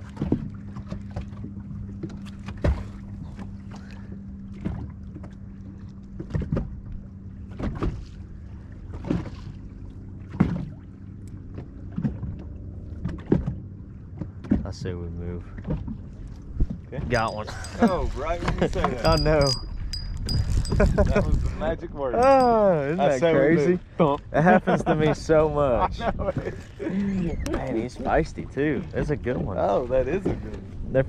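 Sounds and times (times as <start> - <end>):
waves slapping boat hull: 0.0 - 31.0.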